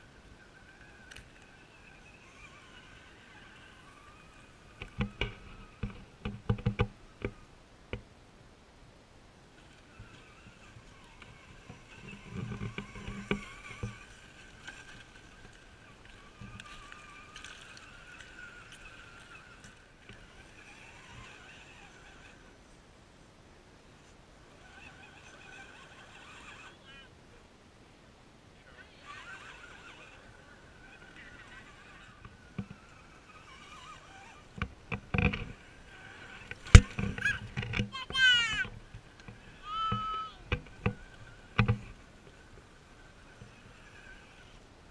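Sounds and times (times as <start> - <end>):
small electric motor whining: 0.0 - 8.0, 9.4 - 22.8, 24.0 - 27.4, 28.6 - 44.9.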